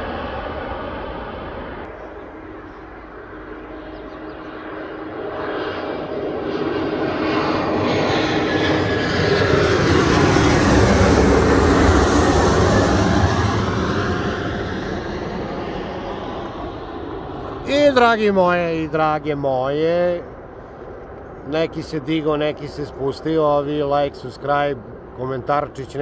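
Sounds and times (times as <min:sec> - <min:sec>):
jet airliner passing overhead: 0:00.0 - 0:26.0
jet engine whine: 0:00.0 - 0:26.0.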